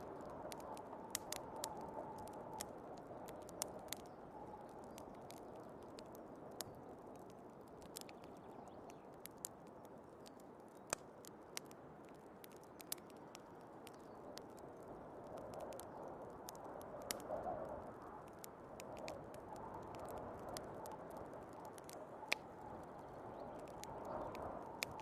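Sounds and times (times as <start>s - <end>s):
faint snowstorm wind: 0.0s - 25.0s
wood fire crackling and popping: 0.0s - 25.0s.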